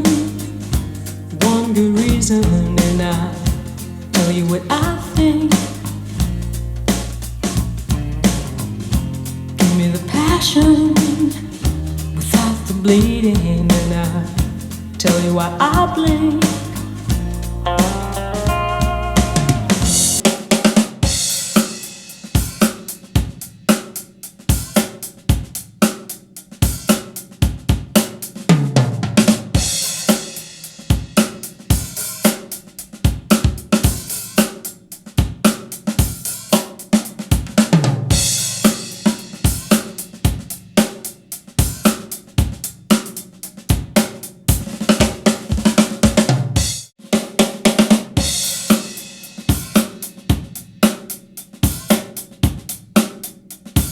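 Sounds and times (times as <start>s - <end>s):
drum kit beat through speaker: 0.0s - 53.9s.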